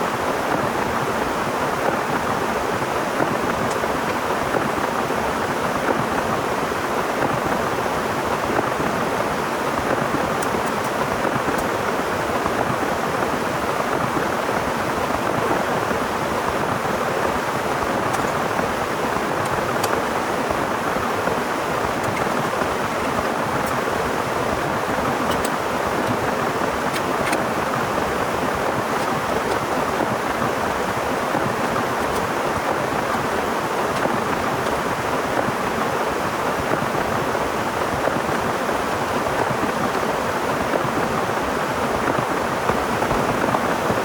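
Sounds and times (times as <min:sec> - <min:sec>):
heavy rain pouring: 0:00.5 - 0:44.0.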